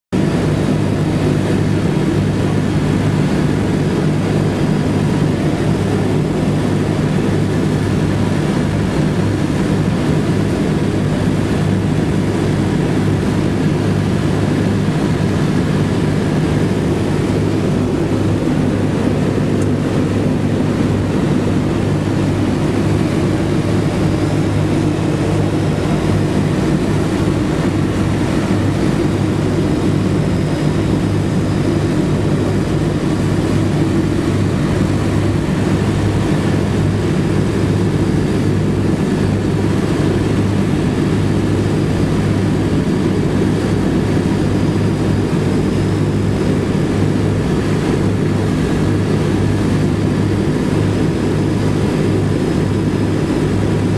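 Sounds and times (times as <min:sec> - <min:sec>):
propeller aircraft engines droning: 0:00.1 - 0:53.9.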